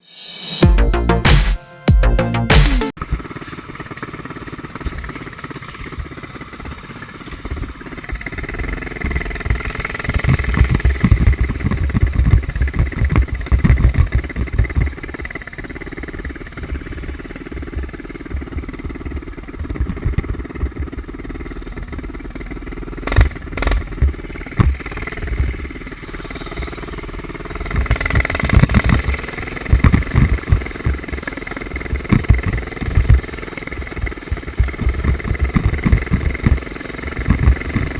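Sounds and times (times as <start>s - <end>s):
mini bike engine revving: 3.2s - 37.9s.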